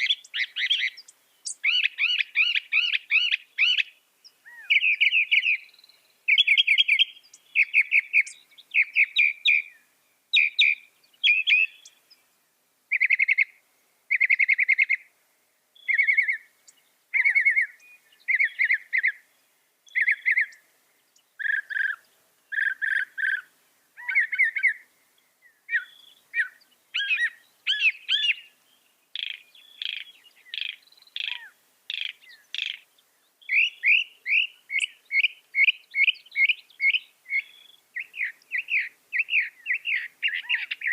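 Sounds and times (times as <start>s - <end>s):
mockingbird singing: 0.0s - 12.2s, 12.9s - 15.1s, 15.8s - 40.9s.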